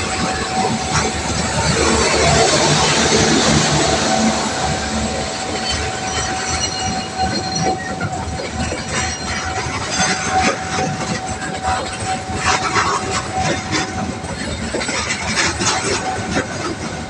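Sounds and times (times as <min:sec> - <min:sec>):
train rumble: 0:00.0 - 0:17.0
train wheels clattering on rails: 0:00.0 - 0:17.0.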